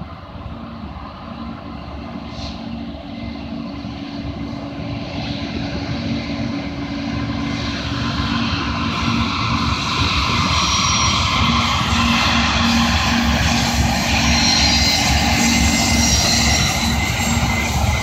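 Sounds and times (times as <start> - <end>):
diesel locomotive engines humming: 0.0 - 18.0
wind noise on microphone: 0.0 - 18.0.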